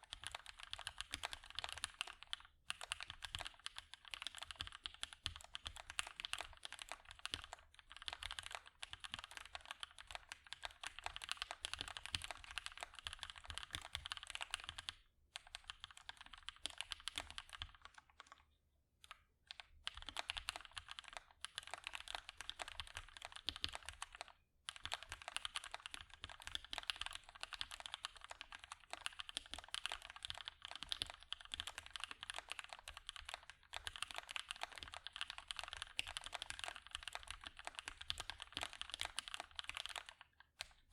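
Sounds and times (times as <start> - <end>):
mechanical keyboard typing: 0.0 - 18.4, 19.0 - 40.9.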